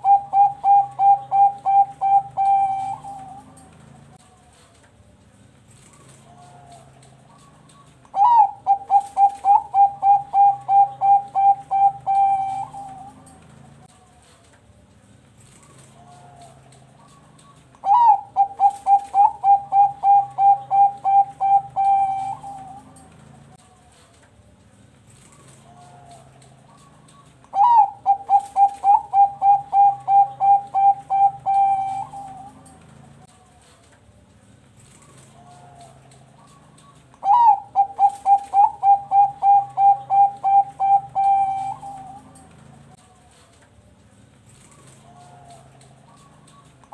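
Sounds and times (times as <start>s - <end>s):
dove cooing: 0.0s - 4.6s, 5.7s - 14.4s, 15.4s - 24.0s, 25.2s - 33.8s, 34.8s - 43.4s, 44.5s - 46.9s.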